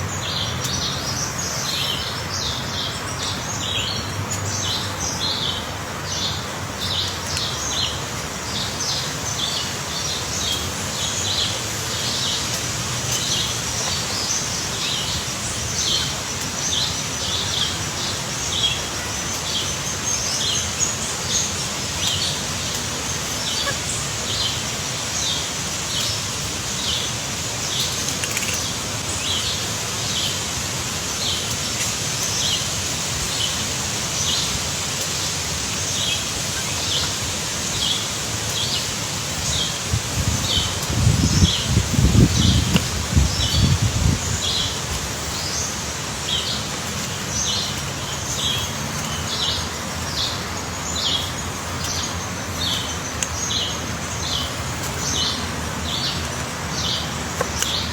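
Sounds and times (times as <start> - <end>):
background hiss: 0.0 - 57.9.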